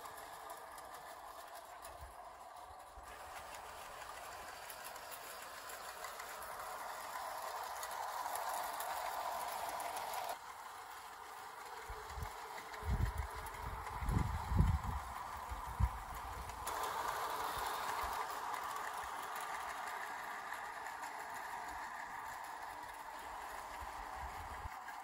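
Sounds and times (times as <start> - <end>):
model train rolling on metal track: 0.0 - 25.0.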